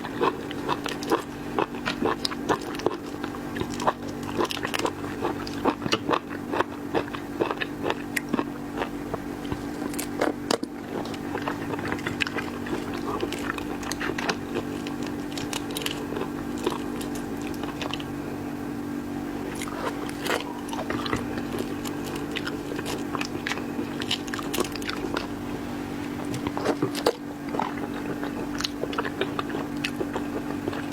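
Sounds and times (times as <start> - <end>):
chewing crunchy food: 0.0 - 18.3, 19.3 - 30.9
low hum: 0.0 - 30.9.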